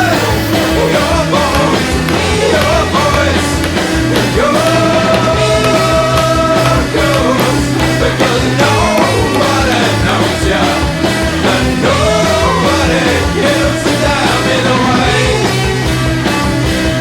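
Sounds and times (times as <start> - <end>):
person singing: 0.0 - 15.7
rock song: 0.0 - 17.0.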